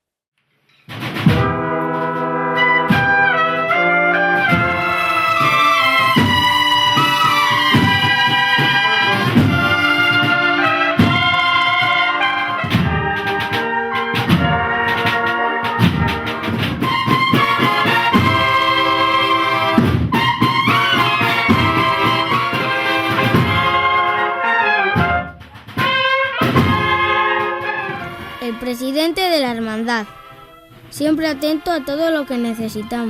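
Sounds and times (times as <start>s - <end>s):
drum beats: 0.8s - 33.0s
cornets playing march melody: 1.1s - 33.0s.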